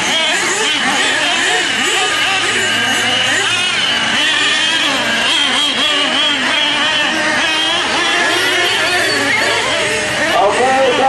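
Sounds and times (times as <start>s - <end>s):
rc truck engines revving: 0.0s - 11.0s.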